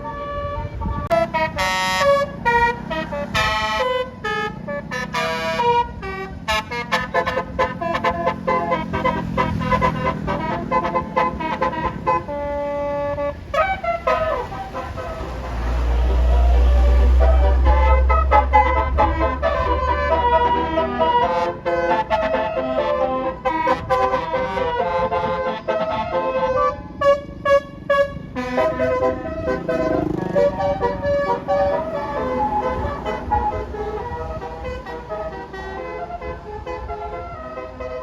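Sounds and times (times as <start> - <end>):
bus horn playing a melody: 0.0 - 38.0.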